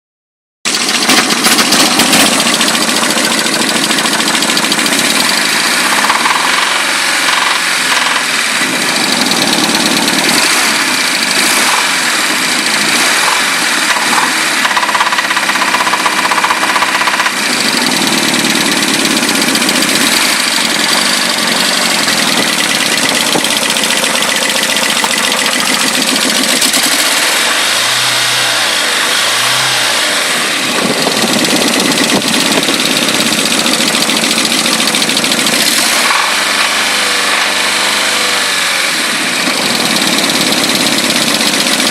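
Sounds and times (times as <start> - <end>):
car engine running with knock: 0.7 - 27.5, 30.6 - 38.5, 39.3 - 41.9.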